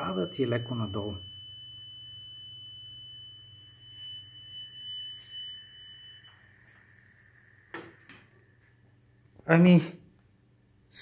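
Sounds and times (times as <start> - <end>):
steady test tone: 0.0 - 9.7.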